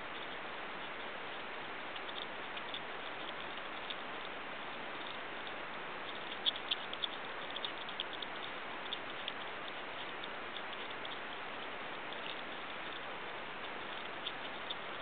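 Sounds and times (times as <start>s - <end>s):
steady hiss: 0.0s - 15.0s
porcupine gnawing corn: 0.1s - 15.0s.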